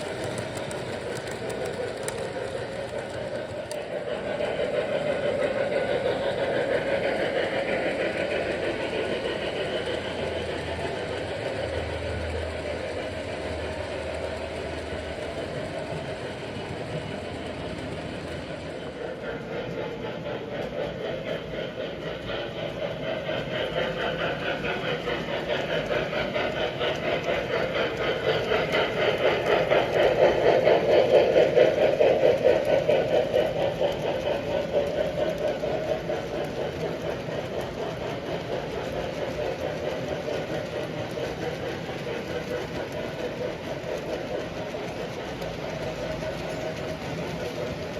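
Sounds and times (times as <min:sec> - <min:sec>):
model train motor humming: 0:00.0 - 0:47.9
wheels clicking over rail joints: 0:00.0 - 0:47.9.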